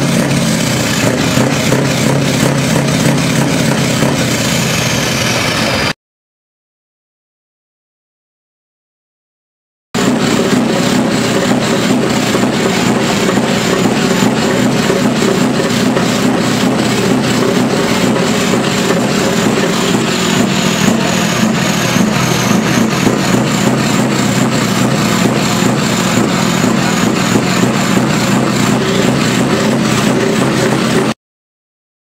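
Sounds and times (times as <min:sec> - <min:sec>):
diesel truck engine idling: 0:00.0 - 0:05.9, 0:10.0 - 0:31.2.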